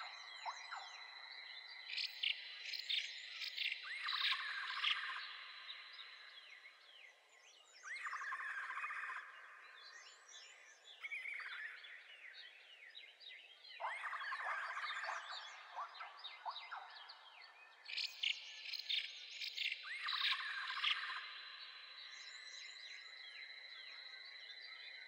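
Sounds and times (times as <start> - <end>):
songbirds singing trilled phrases: 0.0 - 25.0.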